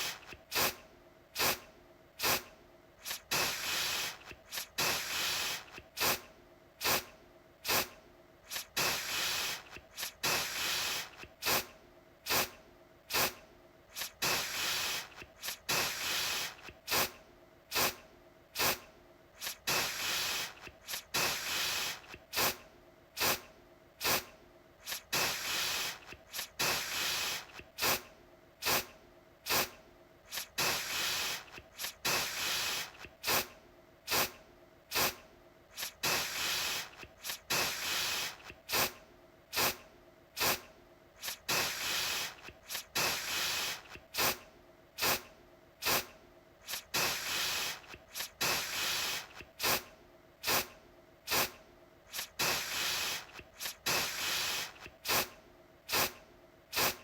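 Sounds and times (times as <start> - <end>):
aerosol can spraying: 0.0 - 0.8, 1.4 - 1.6, 2.2 - 11.7, 12.3 - 18.0, 18.6 - 18.8, 19.4 - 22.6, 23.2 - 23.4, 24.0 - 33.5, 34.1 - 39.8, 40.4 - 44.4, 45.0 - 50.7, 51.3 - 57.0.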